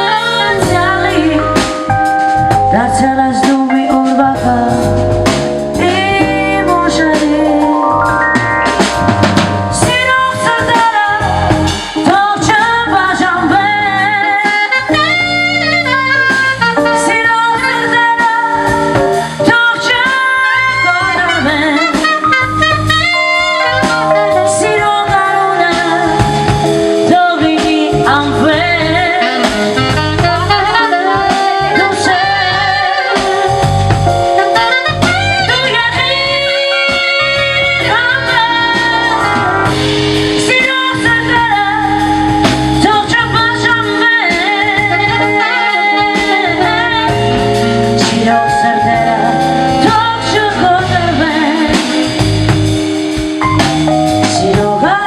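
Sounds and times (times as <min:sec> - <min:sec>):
bass: 0:00.0 - 0:55.0
drum kit: 0:00.0 - 0:55.0
wavering lead melody: 0:00.0 - 0:55.0.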